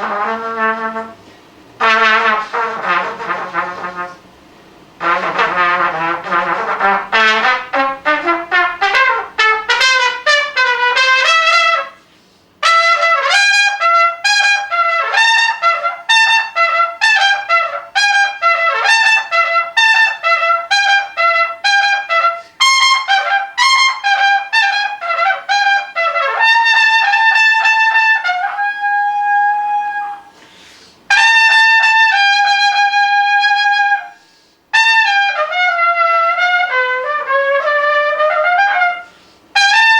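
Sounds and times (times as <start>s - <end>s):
solo trumpet playing fast runs: 0.0s - 4.3s, 5.0s - 30.4s, 31.0s - 39.9s.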